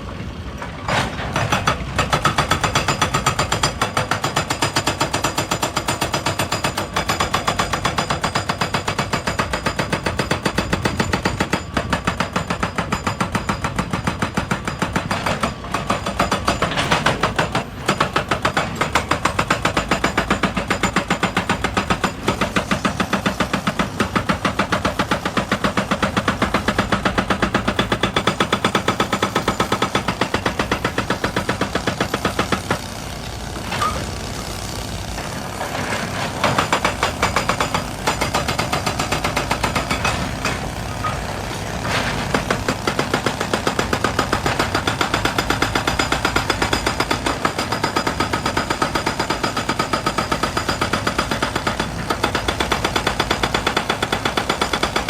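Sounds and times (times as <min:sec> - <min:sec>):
hydraulic rock breaker hammering: 0:00.6 - 0:55.0.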